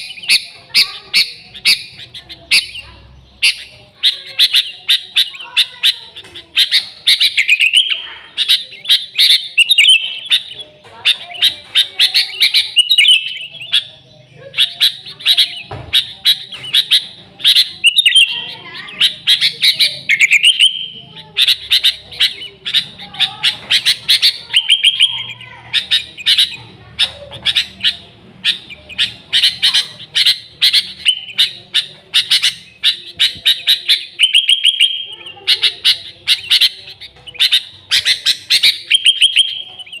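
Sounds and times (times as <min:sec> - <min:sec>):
bird singing and chirping: 0:00.0 - 0:40.0.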